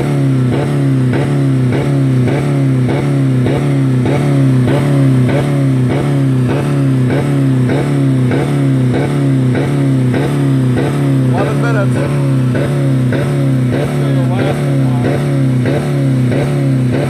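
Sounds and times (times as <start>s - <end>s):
car engine bouncing off rev limiter: 0.0s - 17.0s.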